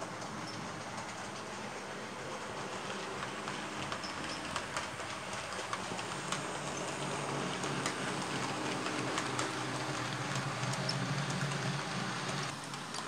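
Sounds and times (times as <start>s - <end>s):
model train hum: 0.0s - 13.0s
wheels clicking over rail joints: 0.0s - 13.0s.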